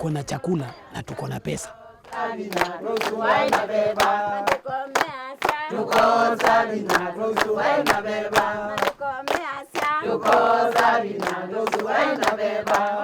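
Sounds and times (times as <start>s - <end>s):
group singing in chorus: 0.0s - 13.0s
hand-clapping: 0.0s - 13.0s.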